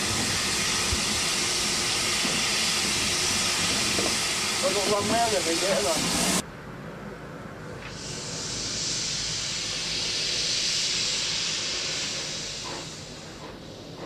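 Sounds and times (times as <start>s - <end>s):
steam hissing from locomotive: 0.0s - 6.4s, 7.8s - 14.0s.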